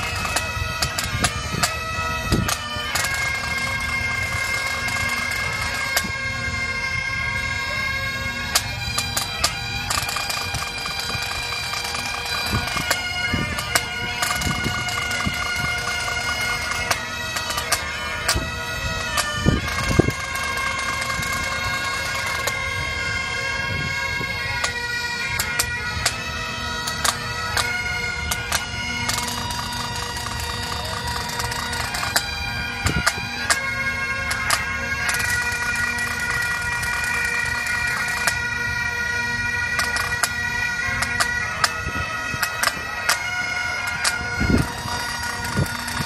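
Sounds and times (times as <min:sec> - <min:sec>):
bagpipes playing over drones: 0:00.0 - 0:46.0.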